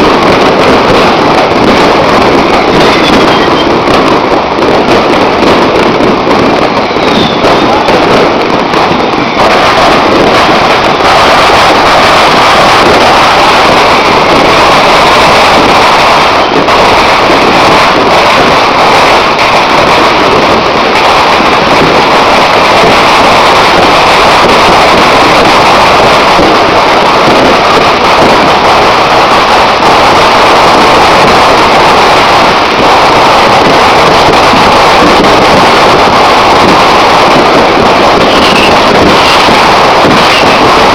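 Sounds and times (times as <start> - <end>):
fireworks crackling roar: 0.0 - 40.9.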